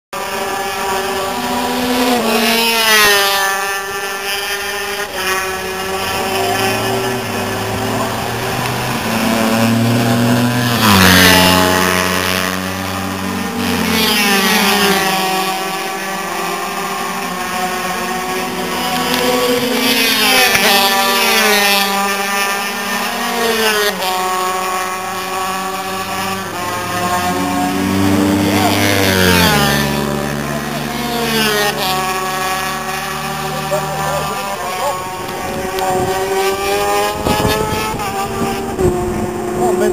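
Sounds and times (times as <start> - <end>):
racing motorcycle engines: 0.2 - 39.9.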